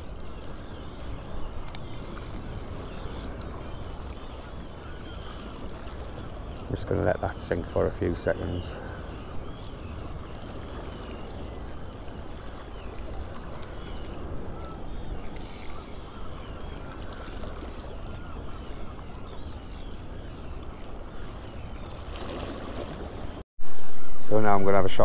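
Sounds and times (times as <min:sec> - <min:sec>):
wind rumble on microphone: 0:00.0 - 0:06.8, 0:08.7 - 0:25.0
faint bird calls: 0:00.0 - 0:25.0.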